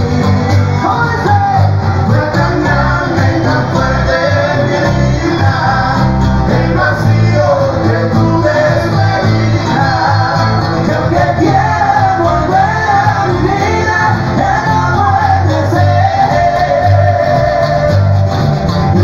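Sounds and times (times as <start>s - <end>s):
electric bass: 0.0s - 19.0s
electric guitar: 0.0s - 19.0s
men singing: 0.0s - 19.0s.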